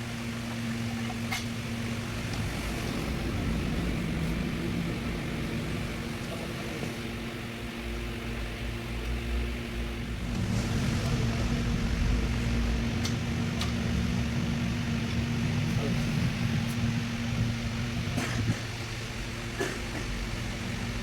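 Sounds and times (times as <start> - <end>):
machine mechanical drone: 0.0 - 21.0.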